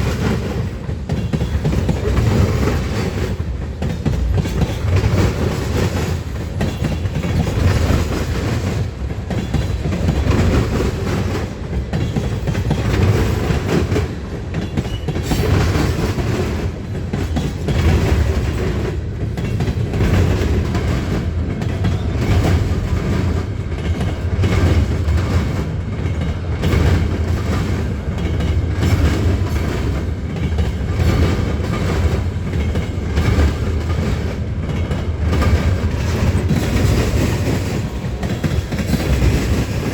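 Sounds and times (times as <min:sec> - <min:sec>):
train rumbling past: 0:00.0 - 0:39.9
wheels clicking over rail joints: 0:00.0 - 0:39.9.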